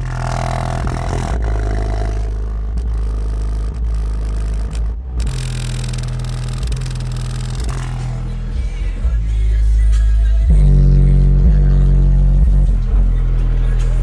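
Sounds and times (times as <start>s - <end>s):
bass-heavy music from car subwoofers: 0.0s - 14.0s.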